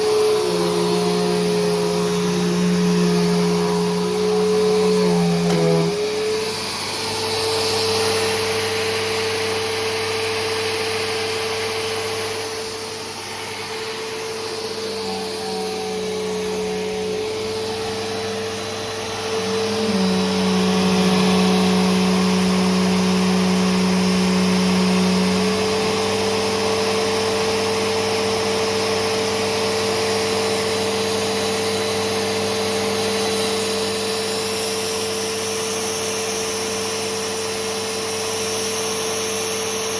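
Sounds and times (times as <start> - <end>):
motor whine: 0.0 - 36.4
upright vacuum cleaner running: 0.0 - 39.9.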